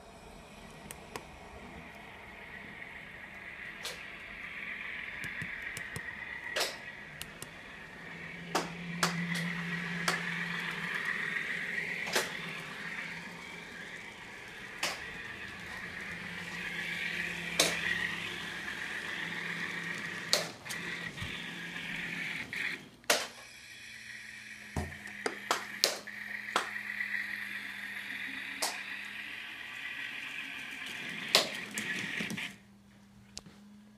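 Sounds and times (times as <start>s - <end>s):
low hum: 0.0s - 31.2s
buzzy model engine sound: 1.5s - 22.8s, 23.4s - 32.6s.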